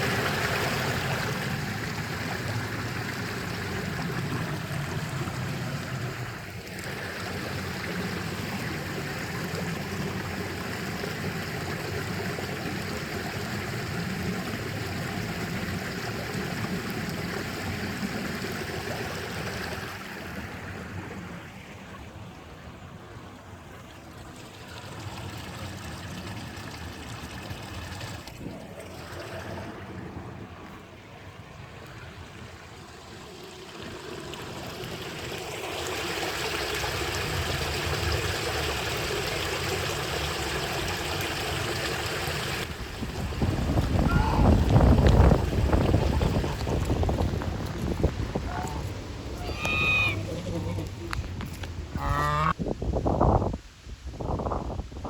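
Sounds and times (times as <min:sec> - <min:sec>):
stream water flowing: 0:00.0 - 0:53.4.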